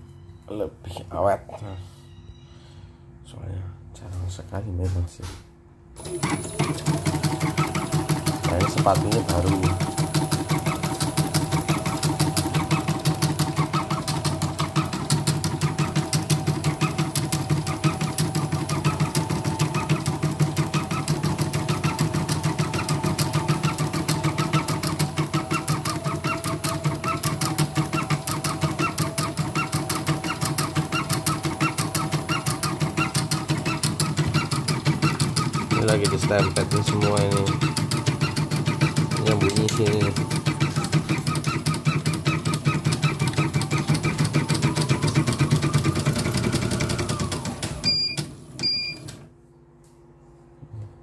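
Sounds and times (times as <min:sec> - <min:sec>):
steady motor hum: 0:00.0 - 0:51.0
embroidery machine needle clatter: 0:06.0 - 0:47.5.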